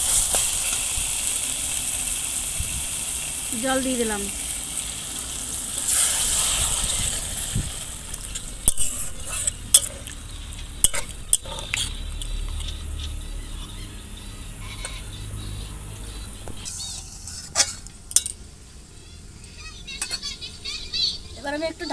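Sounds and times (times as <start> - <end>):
masala sizzling in pan: 0.0 - 21.9.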